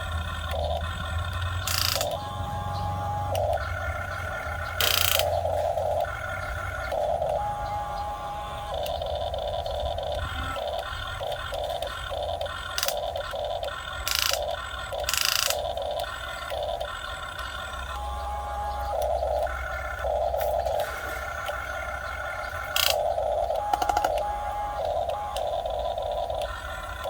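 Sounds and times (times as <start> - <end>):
small electric motors whirring: 0.0 - 27.0.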